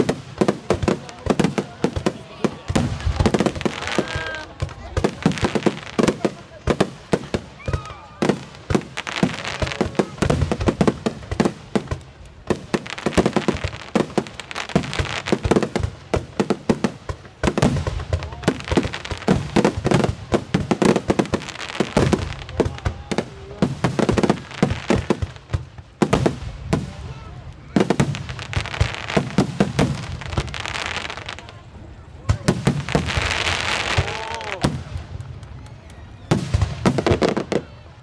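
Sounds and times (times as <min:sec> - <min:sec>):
fireworks bursting with sharp bangs: 0:00.0 - 0:38.0.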